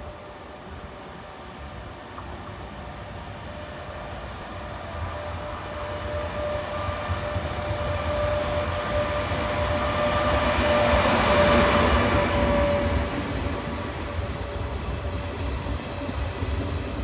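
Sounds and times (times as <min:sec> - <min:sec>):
electric locomotive whine: 0:00.0 - 0:17.0
train rumble: 0:00.0 - 0:17.0.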